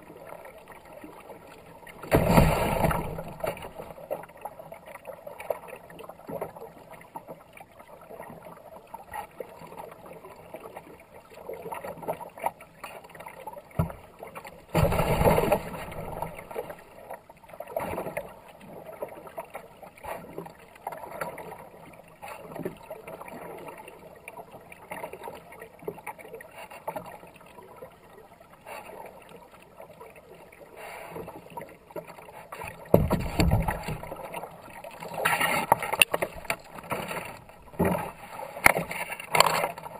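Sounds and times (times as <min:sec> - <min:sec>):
kayak paddle splashing: 0:00.0 - 0:39.9
water rushing along hull: 0:00.0 - 0:39.9.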